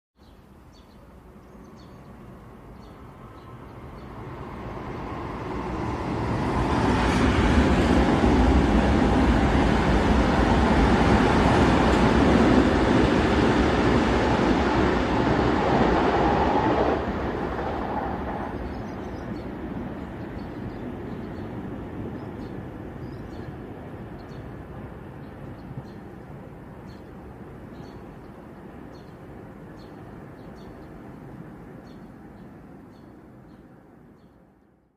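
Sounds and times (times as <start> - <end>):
train passing rumble: 0.5 - 34.6.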